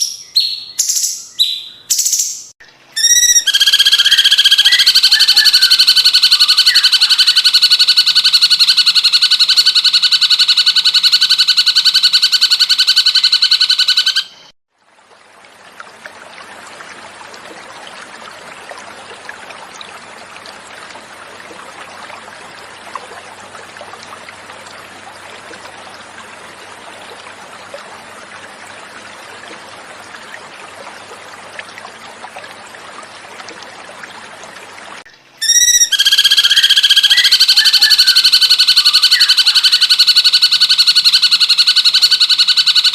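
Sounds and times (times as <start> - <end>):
flowing water: 0.0 - 42.9.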